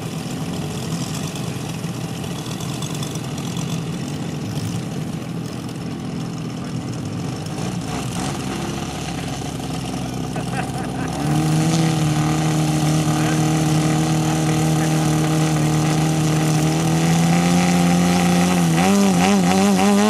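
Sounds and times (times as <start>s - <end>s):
model airplane engine running: 0.0s - 20.0s.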